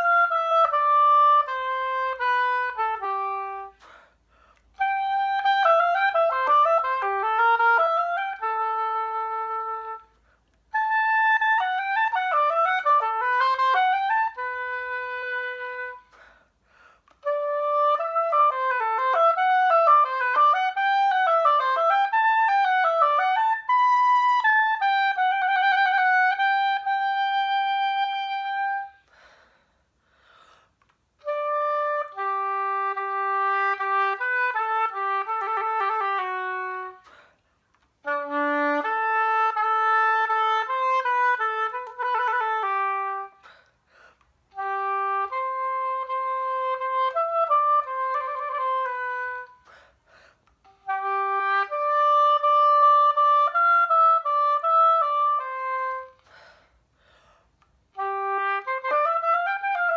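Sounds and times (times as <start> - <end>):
solo oboe playing: 0.0 - 29.6, 30.7 - 59.9.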